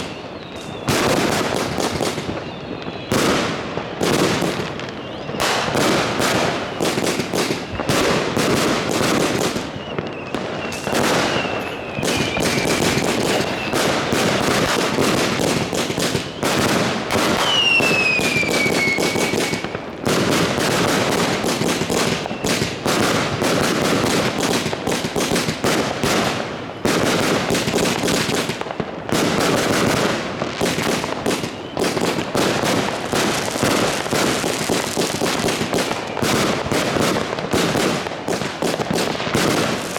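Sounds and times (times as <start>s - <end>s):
falling firework whistles: 0.0s - 39.9s
fireworks barrage of bangs: 0.0s - 39.9s.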